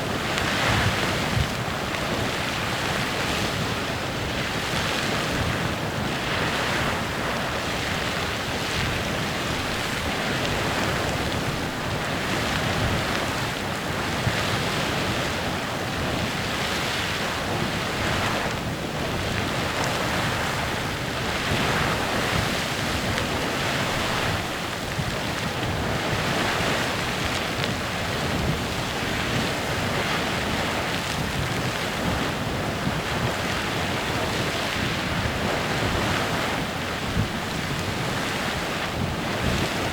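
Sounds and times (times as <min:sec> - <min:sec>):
geyser hissing steam and spray: 0:00.0 - 0:39.9.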